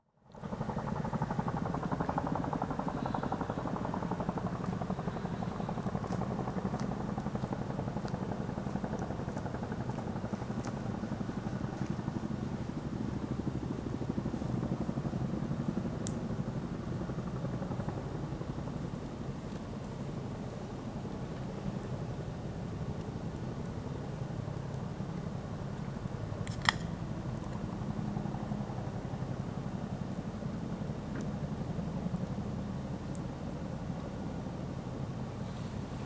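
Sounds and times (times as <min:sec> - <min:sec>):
campfire burning: 0:00.4 - 0:36.0.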